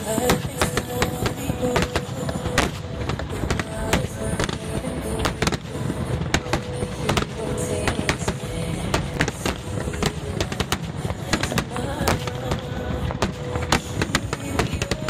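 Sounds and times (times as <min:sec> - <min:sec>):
fireworks bangs and cracks: 0:00.0 - 0:15.0
rumble of firework bursts: 0:00.0 - 0:15.0.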